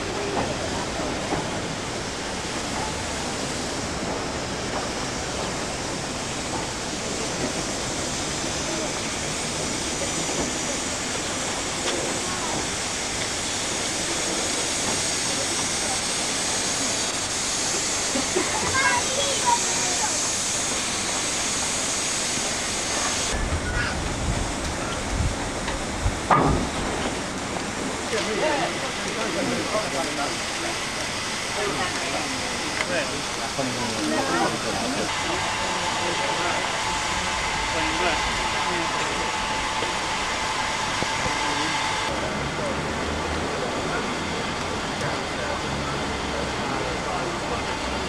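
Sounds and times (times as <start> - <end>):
steam hissing from locomotive: 0.0 - 48.0.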